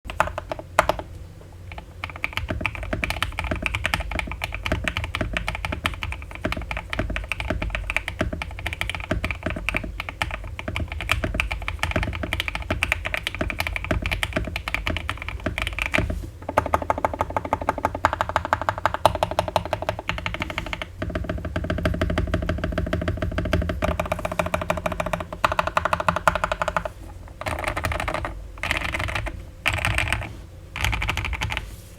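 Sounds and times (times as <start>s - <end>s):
mechanical keyboard typing: 0.1s - 1.1s, 1.7s - 31.6s.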